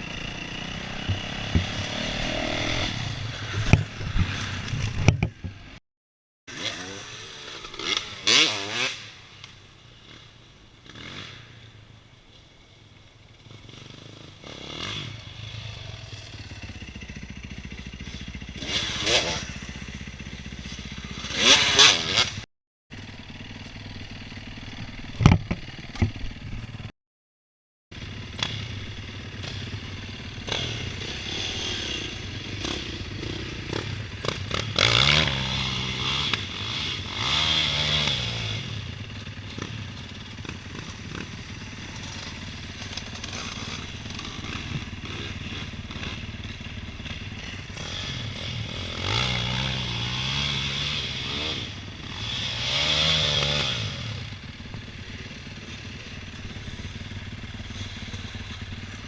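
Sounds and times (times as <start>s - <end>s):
dirt bike engine revving: 0.0s - 5.8s, 6.5s - 9.4s, 10.0s - 11.6s, 13.3s - 26.9s, 28.0s - 59.0s.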